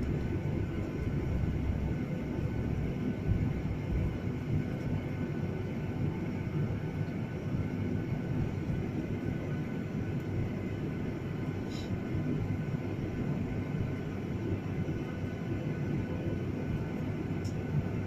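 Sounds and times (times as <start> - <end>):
jet cabin engine drone: 0.0 - 18.0.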